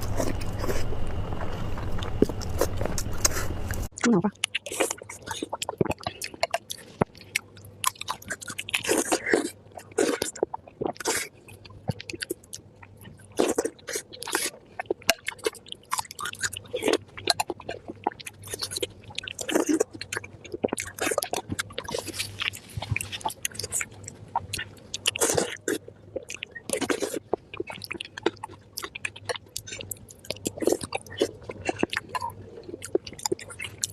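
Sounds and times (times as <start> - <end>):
chewing and mouth smacking: 0.0 - 33.9.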